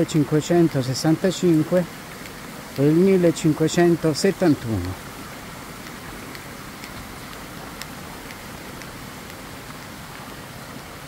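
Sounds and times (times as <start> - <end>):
faint ticks: 0.0 - 11.0
fountain jets splashing into water: 0.0 - 11.0.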